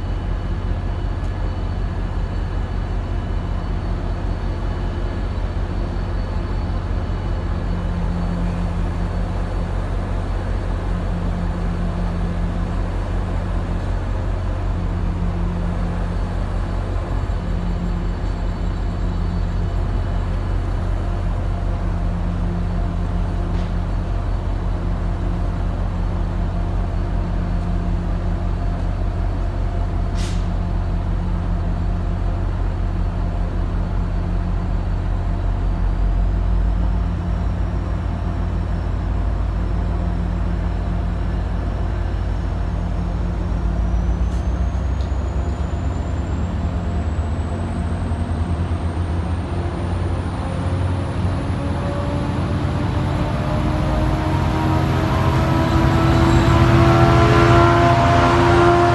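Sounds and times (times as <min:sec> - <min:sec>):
high-pitched train whine: 0:00.0 - 0:58.9
train rumbling: 0:00.0 - 0:58.9.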